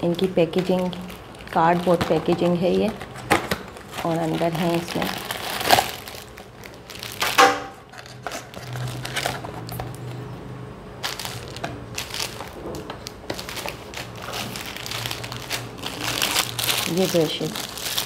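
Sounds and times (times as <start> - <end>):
cardboard and plastic wrapping rustling: 0.0 - 10.3, 11.0 - 18.0.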